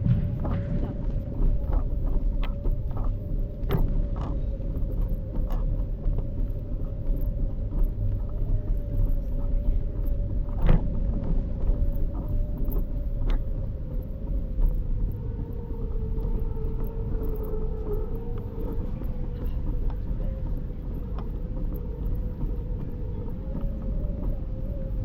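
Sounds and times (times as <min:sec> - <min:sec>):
wheels rumbling on street: 0:00.0 - 0:25.0.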